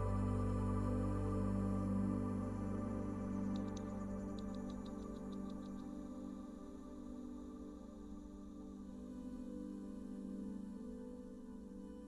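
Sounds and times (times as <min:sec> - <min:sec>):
ambient synthesizer music: 0:00.0 - 0:12.0.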